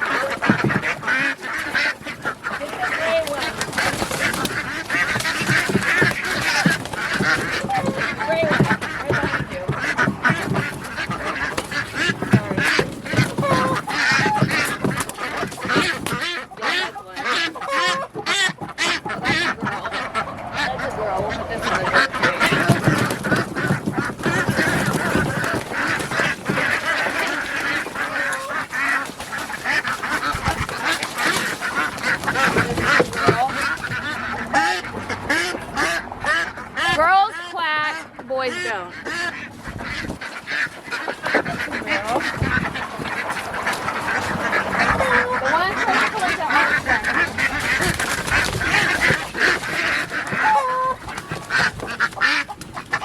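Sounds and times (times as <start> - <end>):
ducks quacking: 0.0 - 53.0.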